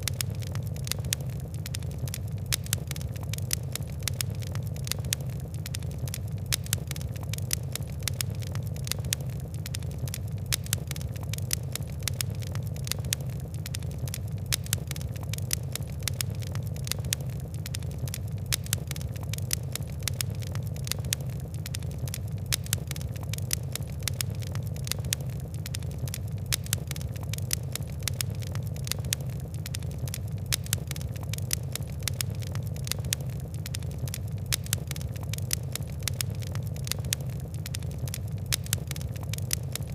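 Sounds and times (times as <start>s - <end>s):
fire crackling and popping: 0.0s - 39.9s
low rumble of burning: 0.0s - 39.9s.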